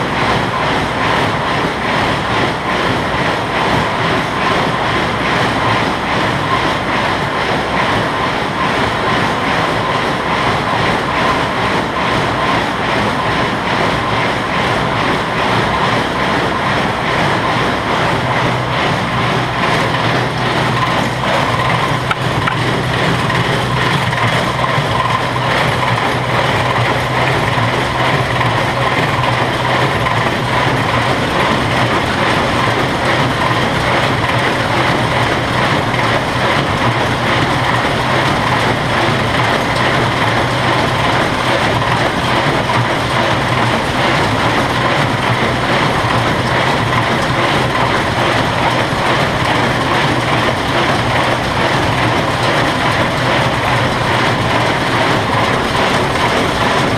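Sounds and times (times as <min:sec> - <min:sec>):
baler mechanical clatter: 0:00.0 - 0:56.9
constant machine hum: 0:00.0 - 0:56.9.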